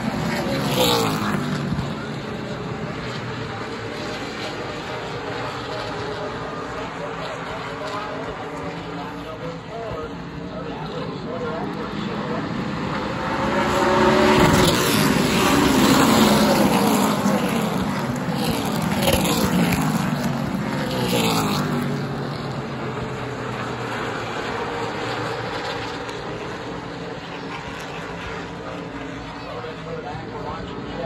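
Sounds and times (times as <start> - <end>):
stock car engines passing: 0.0 - 31.0.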